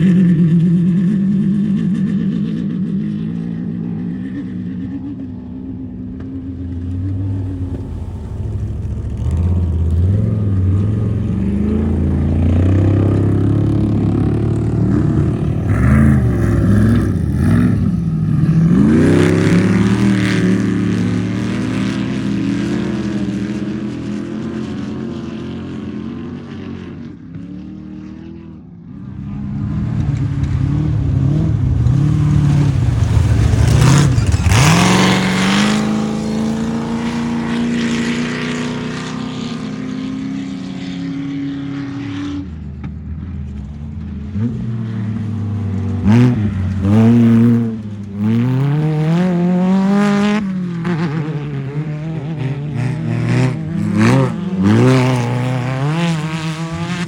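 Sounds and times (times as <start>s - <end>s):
race vehicle engines revving past: 0.0s - 57.0s.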